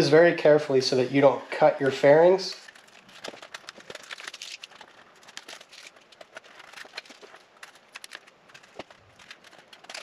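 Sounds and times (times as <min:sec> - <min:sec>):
tape crinkling and crackling: 0:02.0 - 0:10.0.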